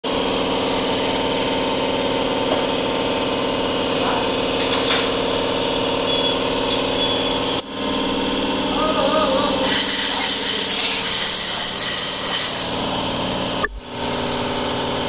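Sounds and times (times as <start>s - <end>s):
small engine running: 0.1s - 15.0s.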